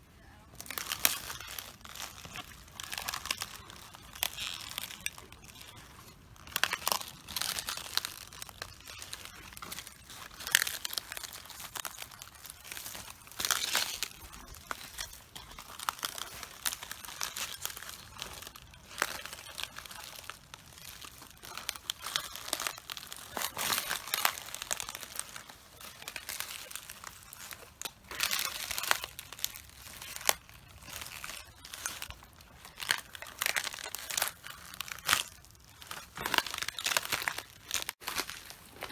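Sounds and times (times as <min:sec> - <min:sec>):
footsteps crushing cabbages: 0:00.5 - 0:38.9.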